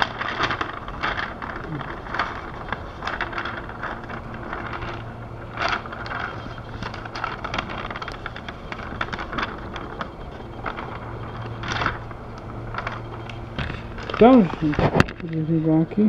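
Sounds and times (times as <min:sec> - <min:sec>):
paper fluttering in airflow: 0:00.0 - 0:15.2
electric fan motor humming: 0:00.0 - 0:16.0.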